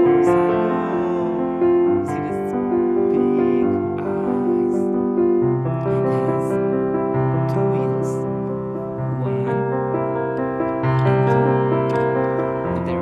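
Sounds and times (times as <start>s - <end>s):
slow piano tune: 0.0s - 13.0s.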